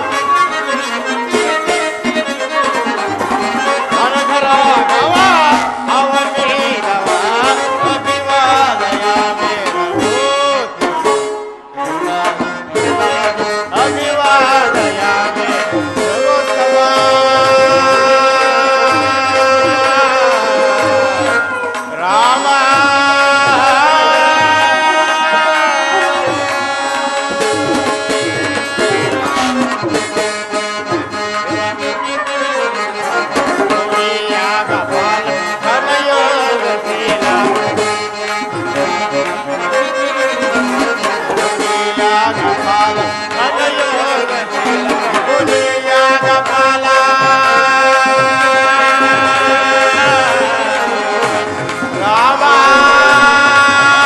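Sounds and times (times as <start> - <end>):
hand drum rhythm: 0.0 - 54.0.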